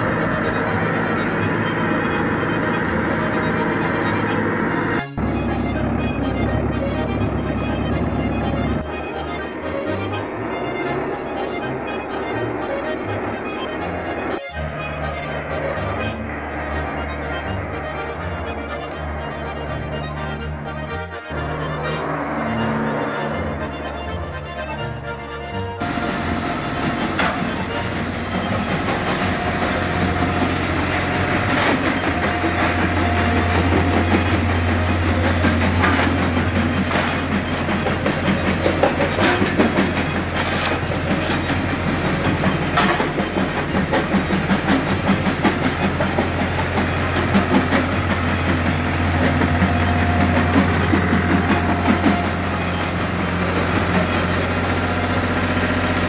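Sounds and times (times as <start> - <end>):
stationary engine running: 0.0 - 56.0.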